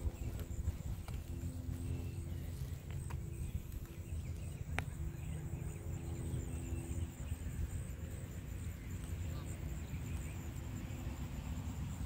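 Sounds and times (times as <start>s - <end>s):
faint chirps: 0.0s - 12.0s
faint steady hum: 0.0s - 12.0s.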